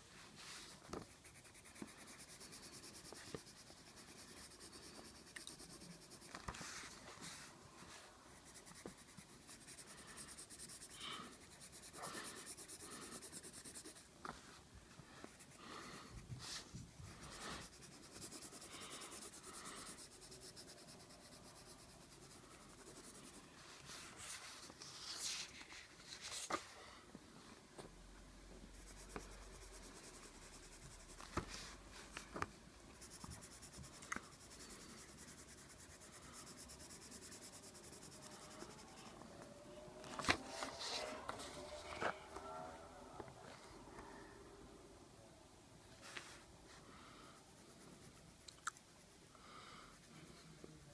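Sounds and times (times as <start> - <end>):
colored pencil scratching on paper: 0.4 - 26.5, 28.6 - 42.8, 46.0 - 50.9.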